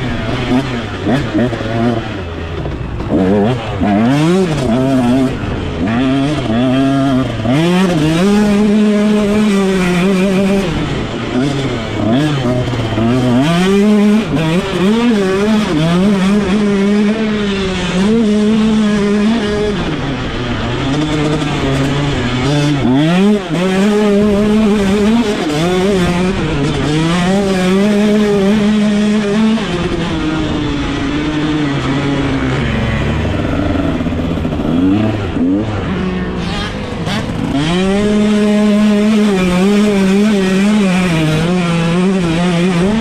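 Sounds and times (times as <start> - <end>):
motocross engine revving: 0.0 - 43.0.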